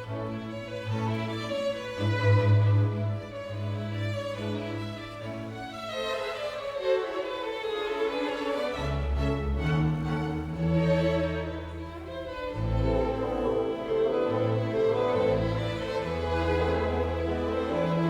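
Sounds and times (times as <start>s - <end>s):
bowed string music: 0.0s - 18.0s.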